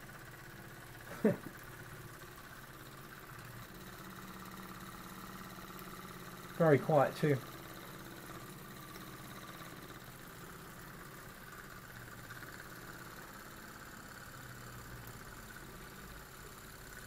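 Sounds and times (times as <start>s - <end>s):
model steam engine whirring: 0.0s - 17.0s.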